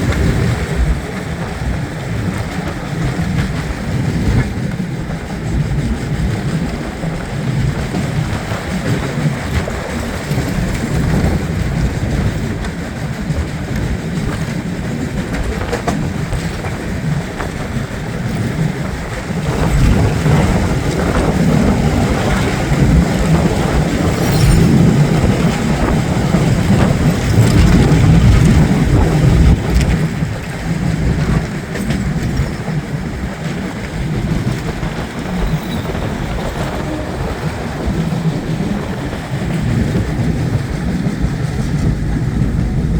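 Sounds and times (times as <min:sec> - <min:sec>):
train rumbling on rails: 0:00.0 - 0:42.9.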